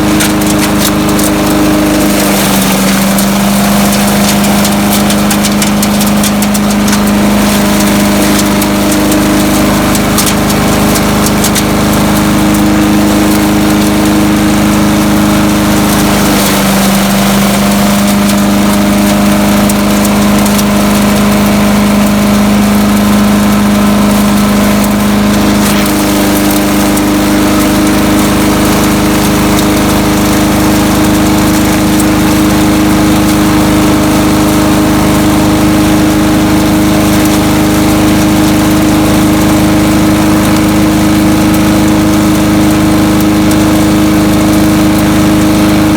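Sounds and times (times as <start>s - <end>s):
chipper shredder engine running: 0.0s - 45.9s.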